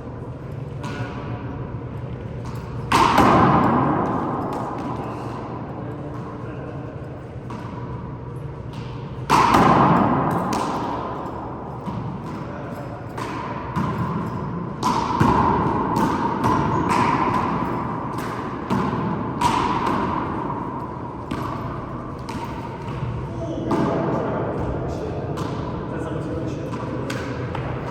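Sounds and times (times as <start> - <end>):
handball smacks echoing: 0.8 - 1.4, 2.0 - 6.5, 7.2 - 25.9, 26.5 - 27.9.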